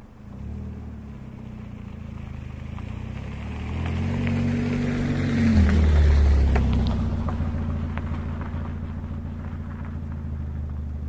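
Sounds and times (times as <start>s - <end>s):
car engine revving then idling: 0.2s - 11.0s.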